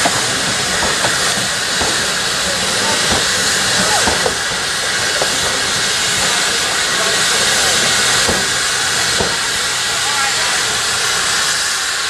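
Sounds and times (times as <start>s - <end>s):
steam locomotive hissing steam: 0.0s - 12.0s.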